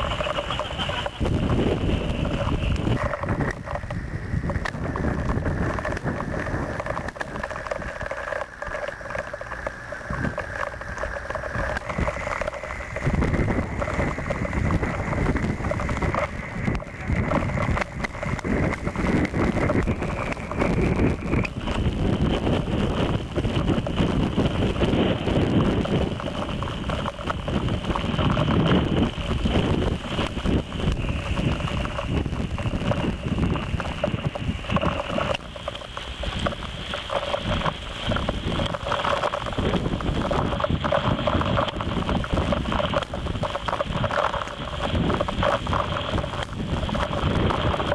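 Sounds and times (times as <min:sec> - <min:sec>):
machine whine: 0:00.0 - 0:47.9
strong wind buffeting microphone: 0:00.0 - 0:47.9.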